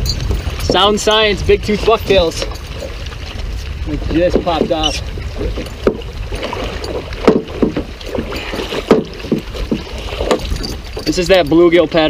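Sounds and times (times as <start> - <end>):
knocks and thumps in a boat: 0.0 - 12.0
wind rumble on microphone: 0.0 - 12.0.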